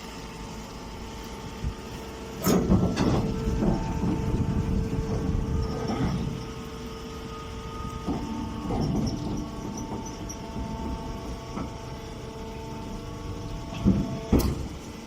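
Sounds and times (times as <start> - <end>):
machinery humming and rumbling: 0.0 - 15.0.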